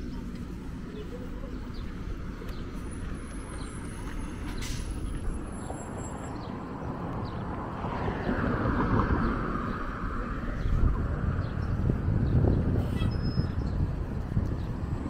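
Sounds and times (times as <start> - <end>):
bus driving past: 0.0 - 15.0.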